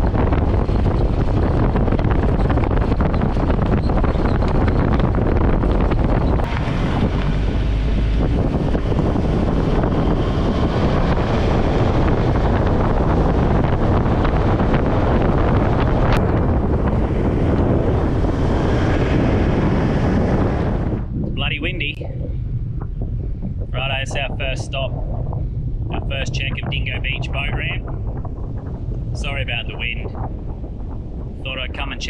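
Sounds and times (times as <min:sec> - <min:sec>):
heavy wind buffeting microphone: 0:00.0 - 0:32.0.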